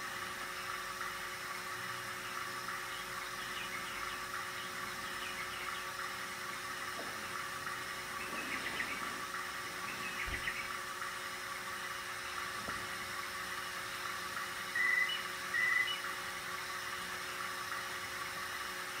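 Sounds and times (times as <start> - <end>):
cassette deck motor whirring: 0.0 - 19.0.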